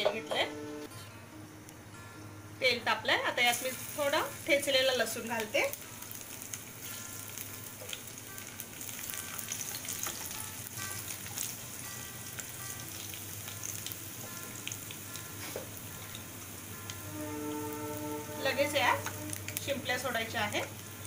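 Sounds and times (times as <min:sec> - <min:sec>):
garlic sizzling in hot oil: 0:03.2 - 0:21.0.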